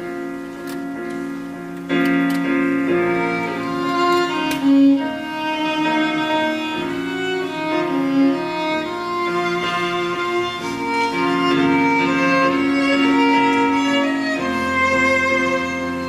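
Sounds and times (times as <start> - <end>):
slow violin melody: 0.6 - 16.0.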